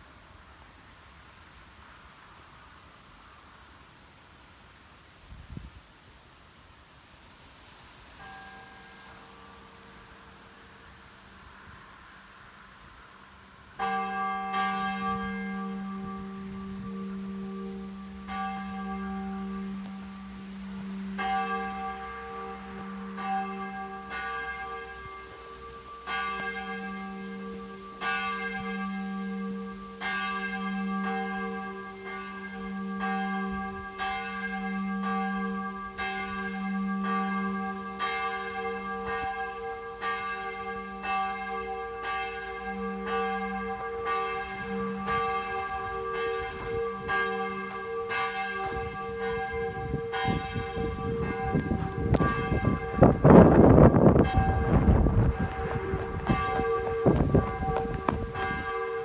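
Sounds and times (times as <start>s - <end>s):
church bell ringing: 8.2s - 11.8s, 13.7s - 59.0s.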